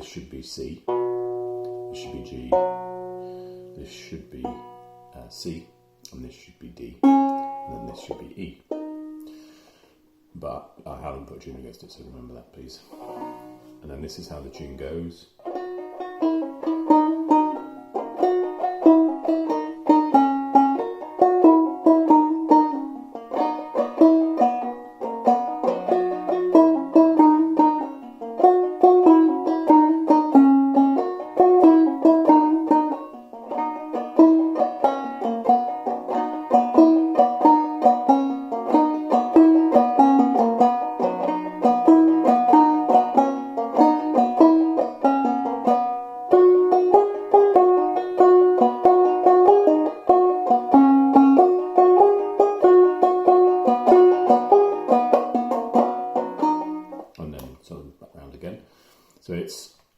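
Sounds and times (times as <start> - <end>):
banjo playing a lively jig: 0.0 - 6.0, 7.0 - 10.3, 10.9 - 57.2.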